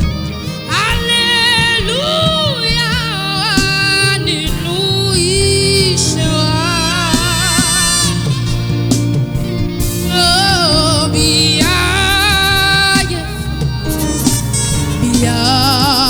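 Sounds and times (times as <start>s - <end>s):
instrumental accompaniment: 0.0s - 16.0s
person singing with vibrato: 0.0s - 16.0s.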